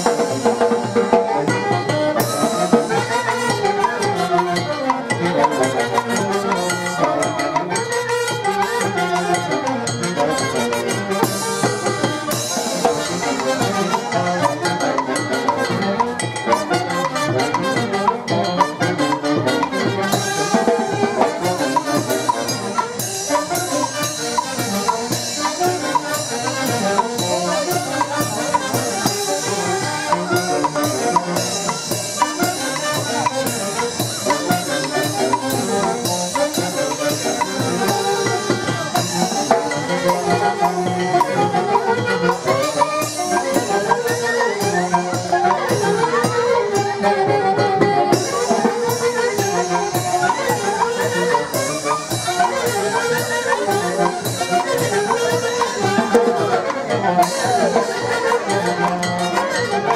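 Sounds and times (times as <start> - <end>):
brass band playing dance tune: 0.0 - 59.9.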